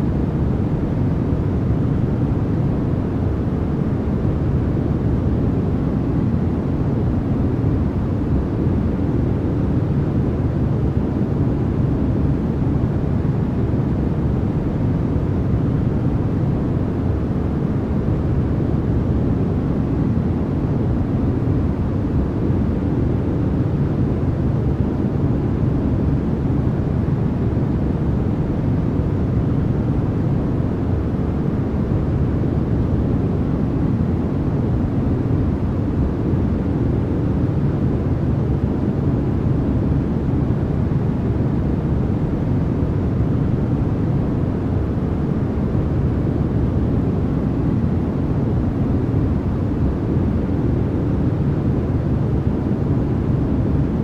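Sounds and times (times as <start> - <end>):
deep rumbling white noise: 0.0 - 54.0.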